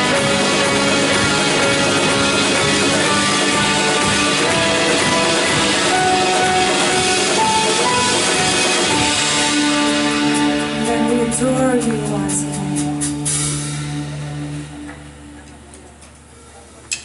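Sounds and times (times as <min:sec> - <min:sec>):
worship band playing instrumental: 0:00.0 - 0:16.2
guitar: 0:00.0 - 0:17.0.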